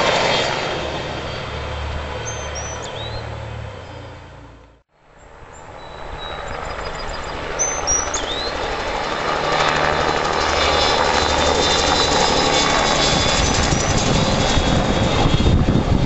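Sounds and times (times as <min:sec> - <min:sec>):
helicopter engine and rotor: 0:00.0 - 0:04.6, 0:05.2 - 0:16.0.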